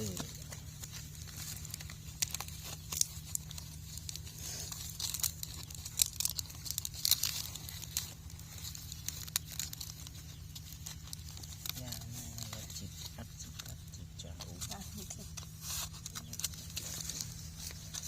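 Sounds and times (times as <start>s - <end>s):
leaves and twigs rustling: 0.0s - 18.0s
steady low hum: 0.0s - 18.0s
twigs snapping: 0.0s - 18.0s.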